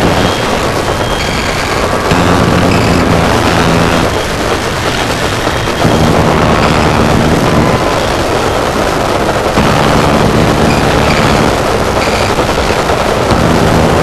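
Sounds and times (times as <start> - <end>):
distorted static noise music: 0.0 - 14.0
low droning tones: 0.0 - 14.0.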